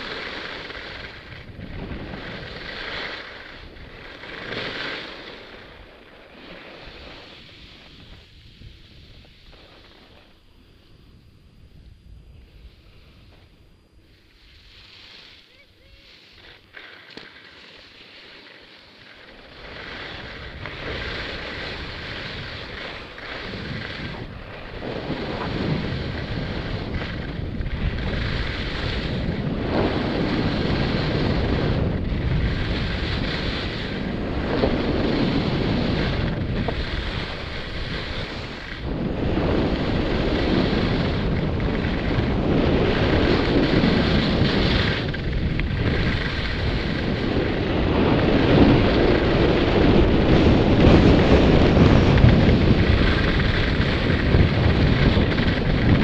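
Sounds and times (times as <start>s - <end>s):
skis scraping on snow: 0.0s - 10.5s, 12.4s - 56.0s
wind rushing over microphone: 0.0s - 16.7s, 19.3s - 56.0s.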